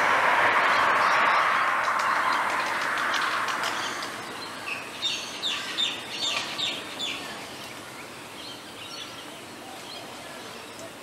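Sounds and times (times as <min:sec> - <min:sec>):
rush of background noise: 0:00.0 - 0:11.0.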